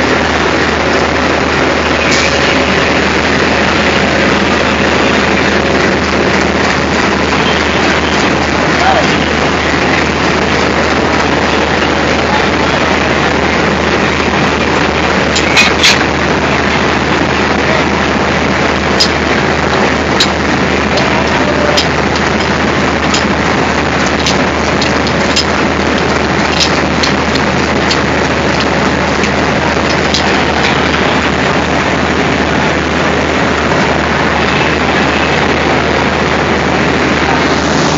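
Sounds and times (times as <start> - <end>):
diesel locomotive idling: 0.0 - 37.9.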